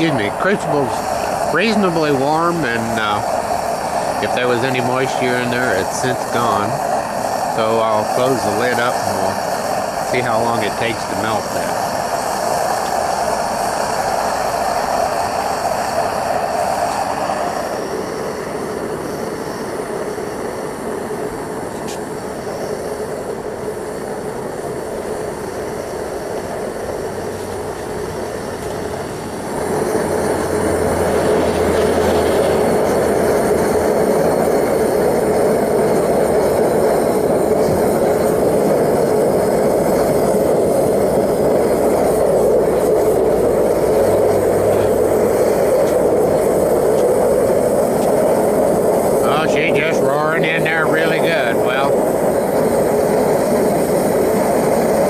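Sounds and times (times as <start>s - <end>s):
torch burners rushing: 0.0s - 55.0s.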